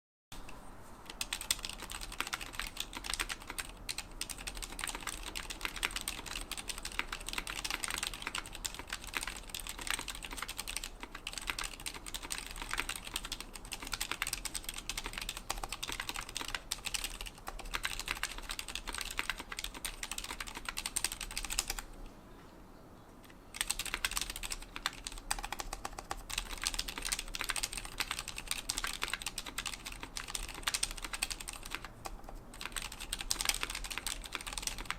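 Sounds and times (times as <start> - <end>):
fast typing on mechanical keyboard: 1.1 - 21.9, 23.5 - 34.9.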